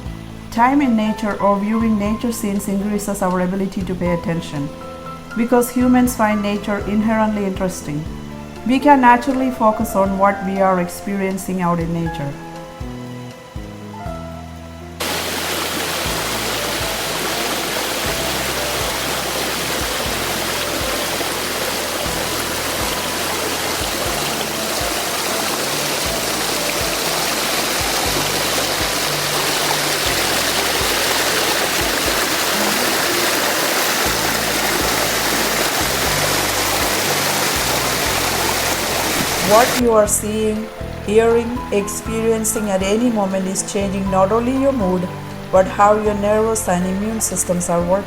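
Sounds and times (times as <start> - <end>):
creek water flowing: 0.0 - 14.0, 15.0 - 48.0
soft background music: 0.0 - 48.0.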